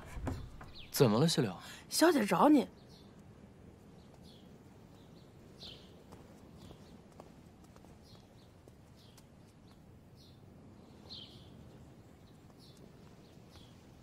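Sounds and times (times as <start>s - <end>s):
low steady background hiss: 0.0s - 14.0s.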